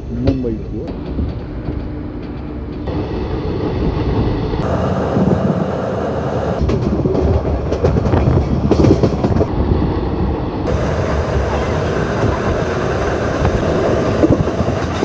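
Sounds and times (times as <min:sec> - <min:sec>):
train coaches rumbling and rattling: 0:00.0 - 0:15.0.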